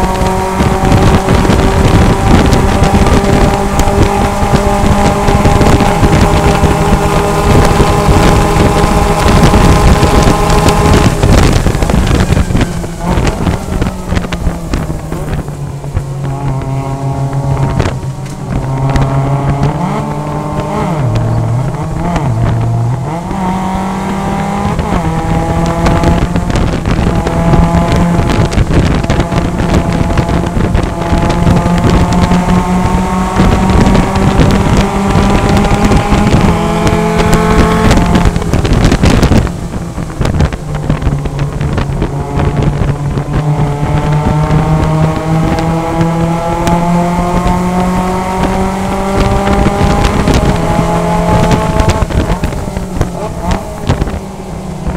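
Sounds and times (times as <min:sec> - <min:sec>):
race car engine at high revs: 0:00.0 - 0:54.9
wind and tyre spray rushing: 0:00.0 - 0:54.9.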